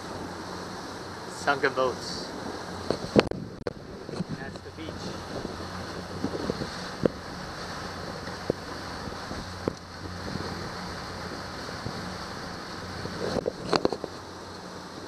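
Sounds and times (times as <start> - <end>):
motorboat engine running: 0.0 - 15.0
water rushing past hull: 0.0 - 15.0
wind buffeting microphone: 0.0 - 15.0.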